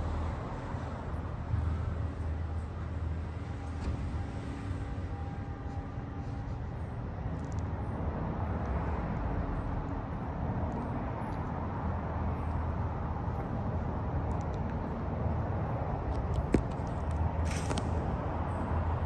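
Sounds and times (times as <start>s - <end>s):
low rumbling background ambience: 0.0s - 19.0s.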